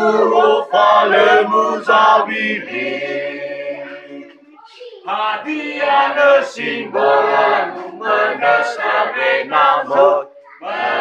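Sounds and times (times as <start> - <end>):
group singing in chorus: 0.0 - 4.3, 5.1 - 11.0.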